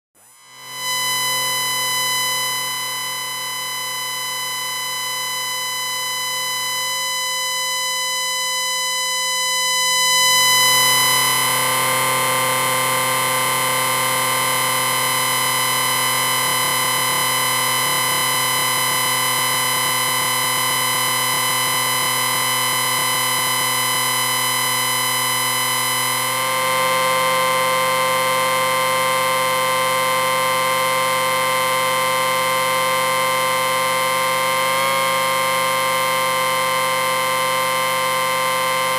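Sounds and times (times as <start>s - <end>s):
electric buzzing ring: 0.2s - 38.9s.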